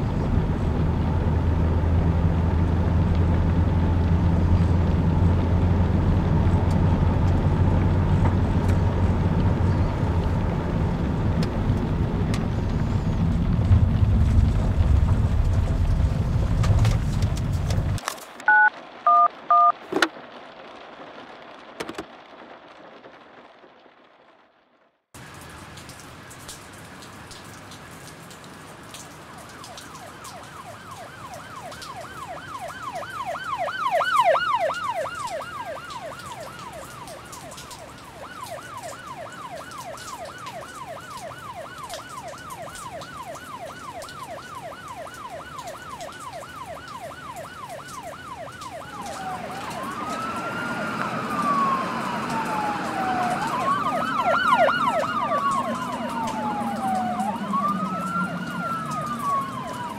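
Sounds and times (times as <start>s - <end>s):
emergency siren: 0.0s - 17.9s, 18.5s - 23.4s, 28.6s - 59.9s
steady rain: 0.0s - 59.9s.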